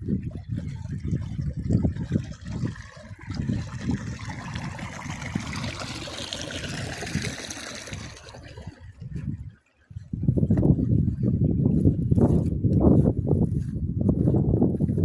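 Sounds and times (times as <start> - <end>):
water trickling in a stream: 0.0 - 12.8.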